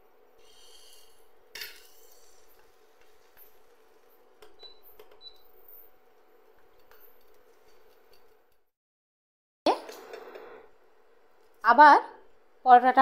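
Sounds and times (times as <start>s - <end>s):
induction cooktop humming: 0.0s - 8.6s, 9.7s - 13.0s.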